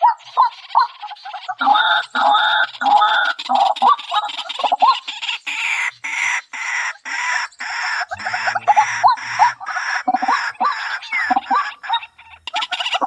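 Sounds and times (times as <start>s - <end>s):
chicken clucking and squawking: 0.0s - 13.0s.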